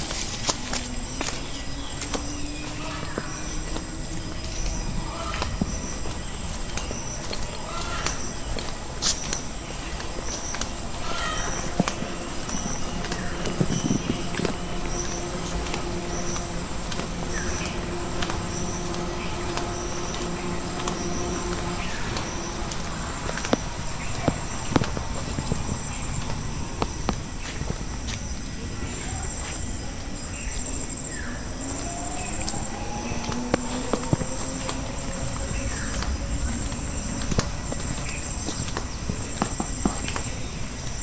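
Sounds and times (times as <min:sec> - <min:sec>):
insects chirring: 0:00.0 - 0:41.0
pulsing insect call: 0:00.0 - 0:41.0.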